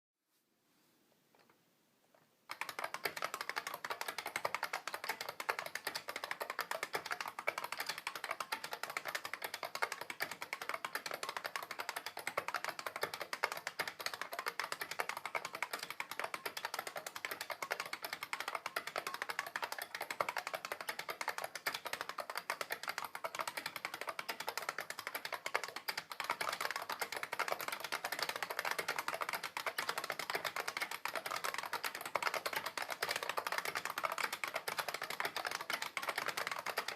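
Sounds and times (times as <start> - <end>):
fast keyboard typing clicks: 2.5 - 36.9.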